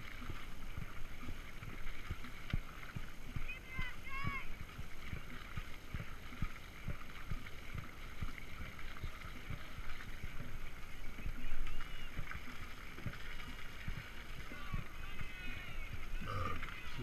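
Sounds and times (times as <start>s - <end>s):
paddles in water: 0.0s - 17.0s
water splashing along boat hull: 0.0s - 17.0s.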